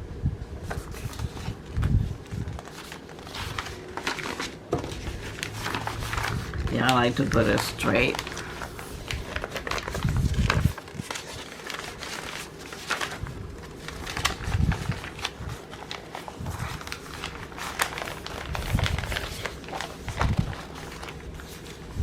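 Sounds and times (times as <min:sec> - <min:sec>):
packaging crackling: 0:00.8 - 0:22.0.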